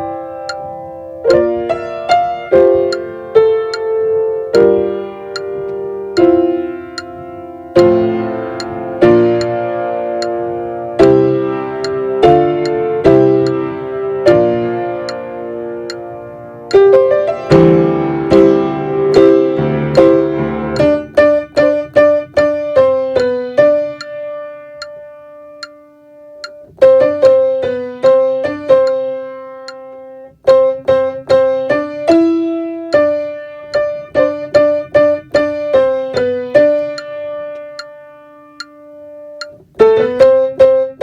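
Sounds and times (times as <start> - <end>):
piano playing praise song: 0.0 - 41.0.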